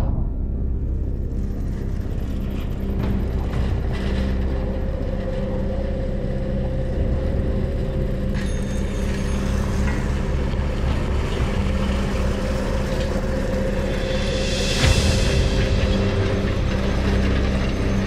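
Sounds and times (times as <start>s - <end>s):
excavator diesel engine running: 1.1s - 18.0s.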